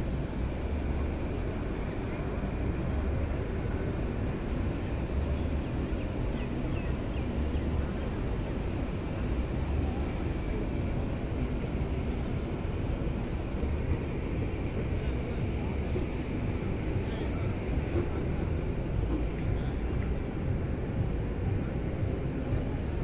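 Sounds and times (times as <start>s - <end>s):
hum of busy plaza: 0.0s - 23.0s.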